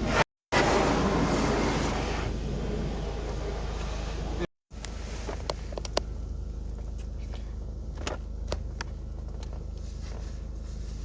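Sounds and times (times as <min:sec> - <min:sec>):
car wash rumble: 0:00.0 - 0:11.0.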